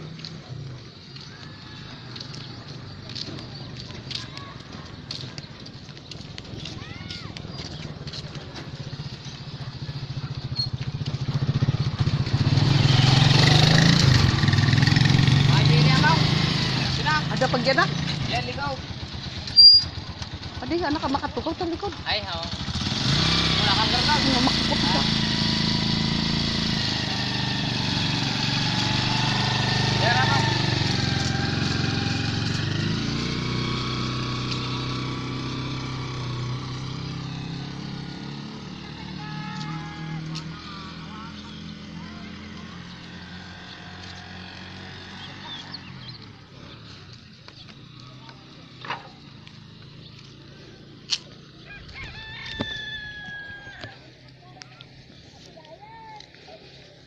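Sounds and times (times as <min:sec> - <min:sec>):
motorcycle engine approaching: 0:00.0 - 0:57.0.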